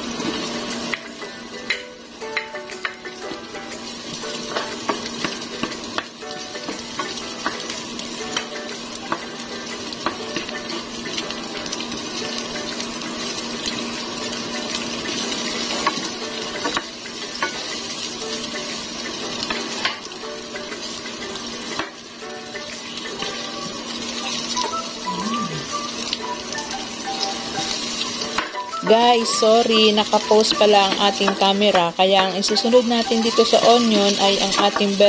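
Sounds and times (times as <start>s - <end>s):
onion sizzling in hot oil: 0.0s - 35.0s.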